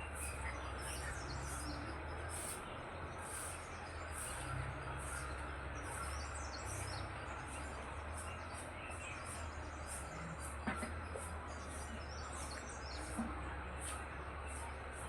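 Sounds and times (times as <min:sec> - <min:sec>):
birds chirping: 0:00.0 - 0:15.0
outdoor noise with low hum: 0:00.0 - 0:15.0.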